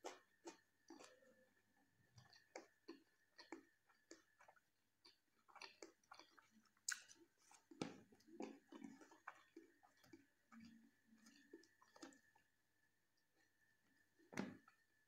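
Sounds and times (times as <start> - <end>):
wet chewing and mouth smacks: 0.0 - 12.6.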